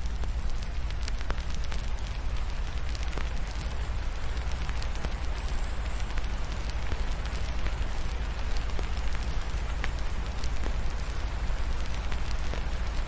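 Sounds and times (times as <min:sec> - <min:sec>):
log fire crackling: 0:00.0 - 0:13.0
rain hiss: 0:00.0 - 0:13.0.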